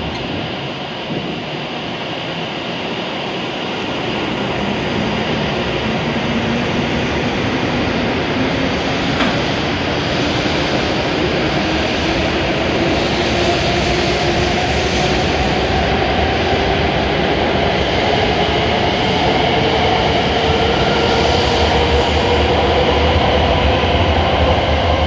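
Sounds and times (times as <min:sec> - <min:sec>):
rumble of train cars: 0:00.0 - 0:25.0.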